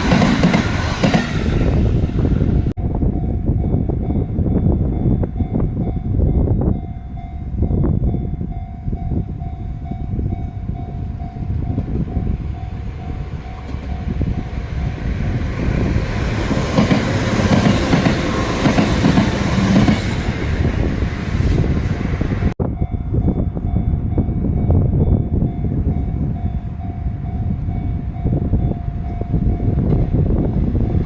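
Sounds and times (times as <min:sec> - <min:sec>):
electric train passing: 0:00.0 - 0:31.0.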